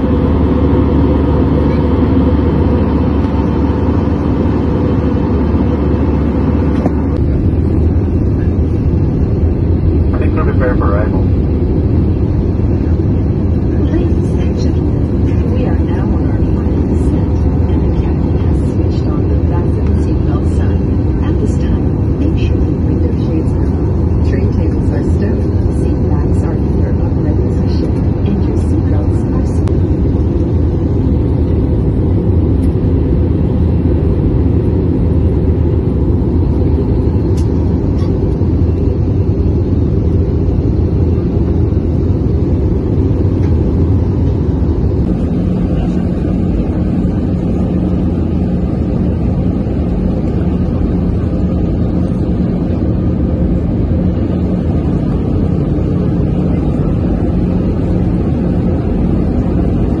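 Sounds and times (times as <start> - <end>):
jet engine running: 0.0 - 60.0
steady low hum: 0.0 - 60.0.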